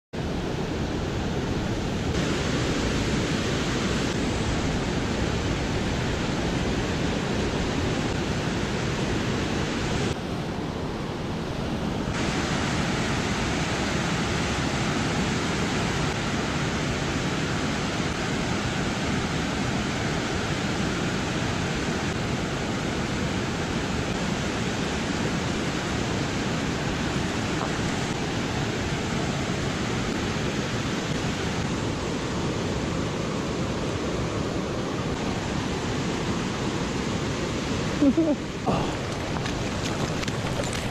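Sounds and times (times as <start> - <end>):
river water rushing over dam: 0.2 - 40.9.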